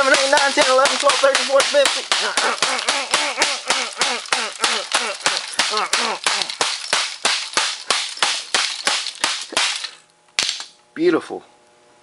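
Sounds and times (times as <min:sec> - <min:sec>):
person counting: 0:00.0 - 0:09.7
hammer striking laptop keyboard: 0:00.1 - 0:09.8.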